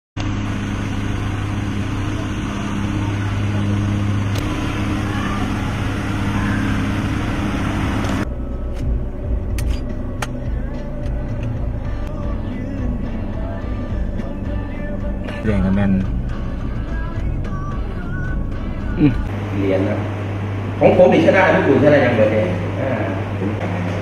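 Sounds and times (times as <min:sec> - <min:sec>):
engine humming: 0:00.2 - 0:24.0.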